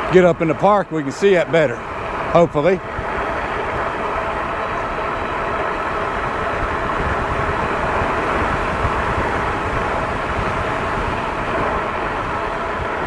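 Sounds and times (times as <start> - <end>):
scooter road noise: 0.0 - 13.0
wind rush: 0.0 - 13.0.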